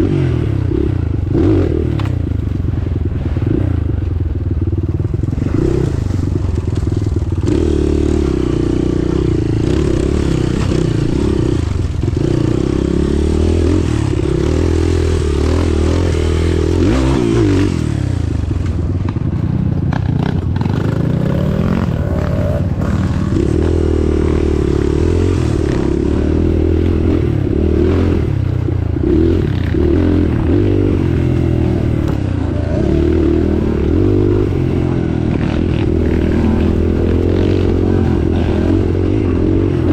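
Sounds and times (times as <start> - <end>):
off-road vehicle engine labouring: 0.0 - 39.9.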